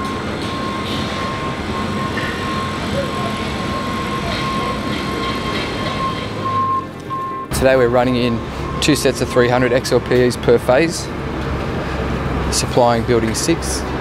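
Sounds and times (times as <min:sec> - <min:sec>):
constant high whine: 0:00.0 - 0:14.0.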